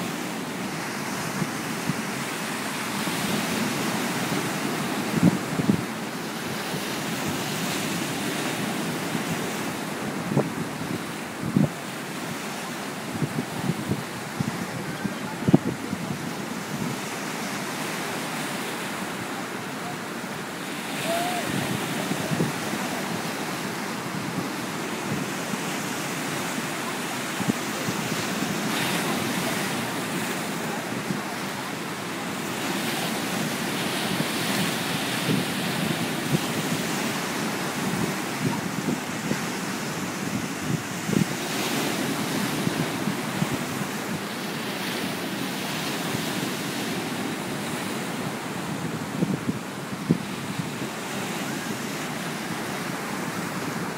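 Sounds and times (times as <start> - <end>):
surf breaking over rocks: 0.0 - 53.9.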